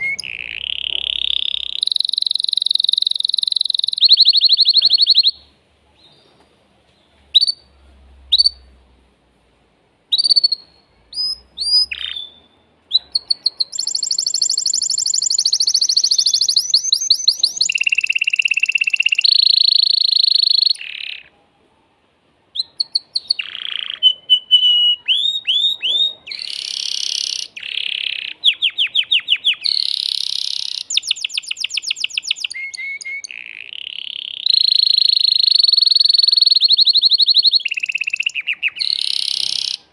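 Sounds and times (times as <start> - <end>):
canary singing trills: 0.0 - 6.4, 7.3 - 8.8, 10.1 - 21.4, 22.5 - 39.9.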